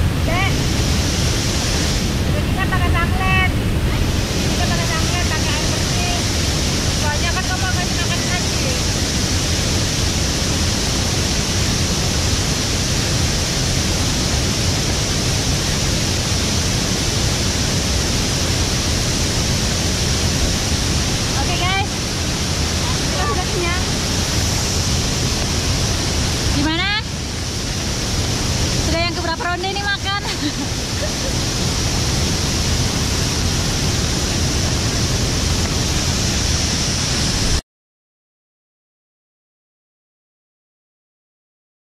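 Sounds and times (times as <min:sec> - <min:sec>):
waterfall rushing: 0:00.0 - 0:37.6.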